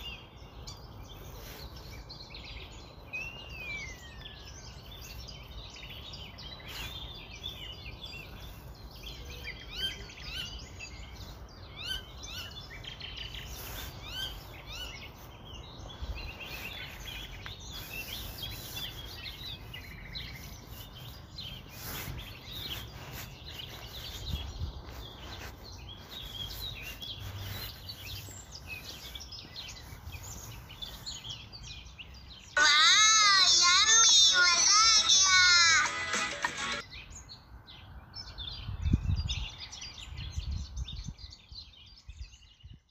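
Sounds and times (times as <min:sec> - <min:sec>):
birds chirping: 0:00.0 - 0:42.7.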